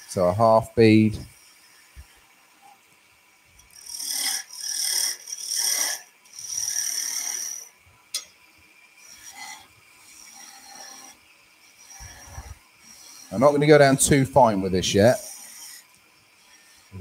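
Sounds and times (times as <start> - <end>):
chisel hissing on turning wood: 0.0 - 2.9, 3.6 - 7.8, 8.9 - 17.0.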